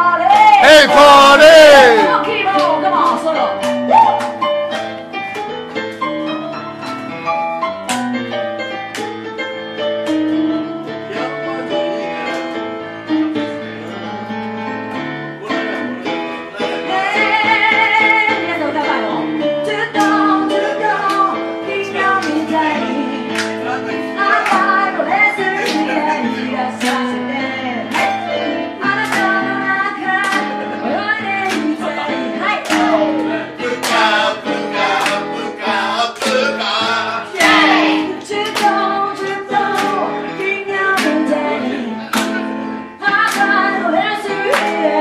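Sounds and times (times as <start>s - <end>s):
digital piano soul-jazz accompaniment: 0.0s - 45.0s.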